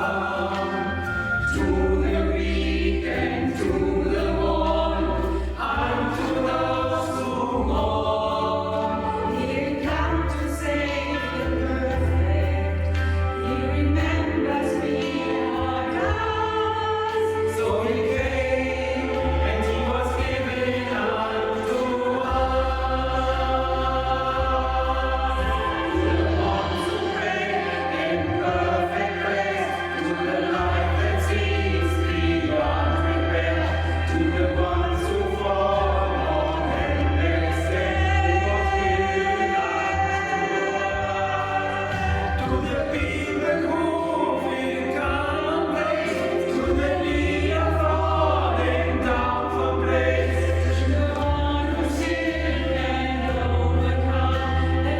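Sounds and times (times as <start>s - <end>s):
choir singing: 0.0s - 54.9s.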